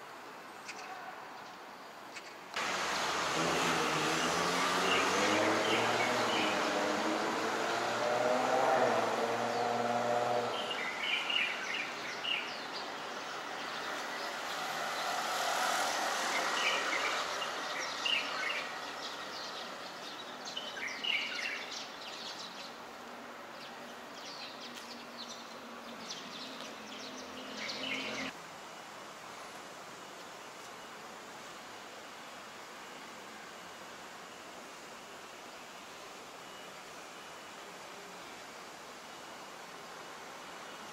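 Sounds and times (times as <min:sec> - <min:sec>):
traffic hum: 0:00.0 - 0:40.9.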